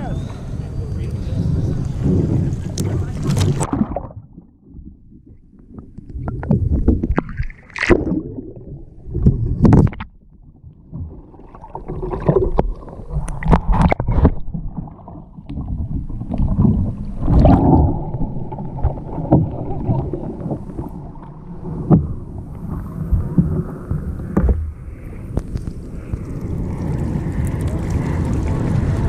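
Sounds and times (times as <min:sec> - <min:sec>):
steady low rumble: 0:00.0 - 0:07.6, 0:08.2 - 0:29.0
water splashing around kayak: 0:00.0 - 0:29.0.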